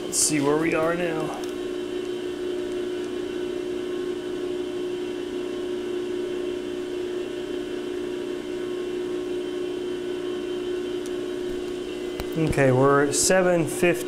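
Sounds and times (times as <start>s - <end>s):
electric motor humming: 0.0s - 14.0s.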